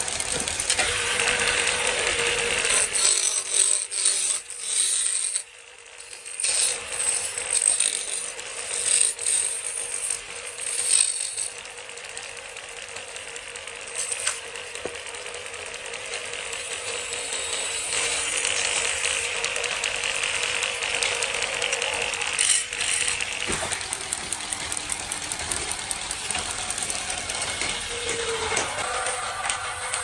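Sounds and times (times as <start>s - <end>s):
factory machinery clicking and rattling: 0.0s - 30.0s
steady machine hum: 5.4s - 30.0s.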